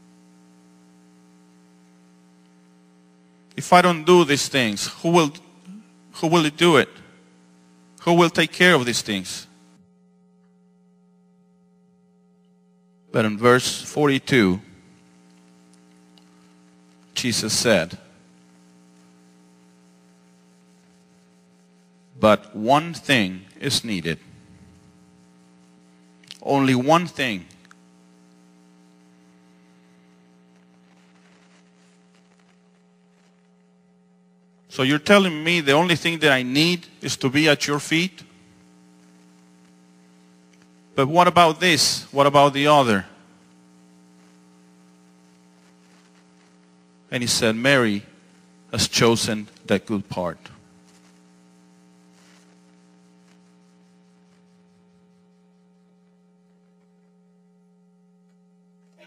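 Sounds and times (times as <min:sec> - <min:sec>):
faint electrical mains hum: 0:00.0 - 0:59.0.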